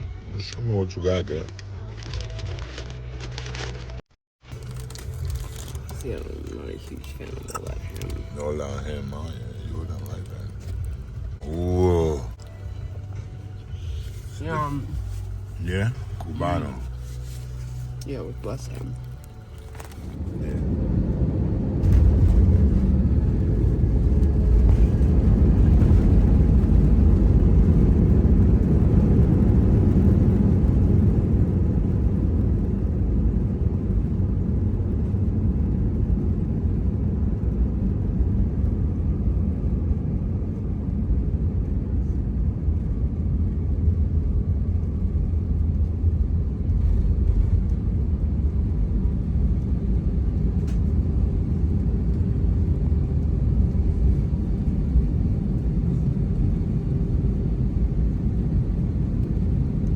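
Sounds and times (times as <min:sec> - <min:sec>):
vehicle rumble from inside: 0:00.0 - 0:59.9.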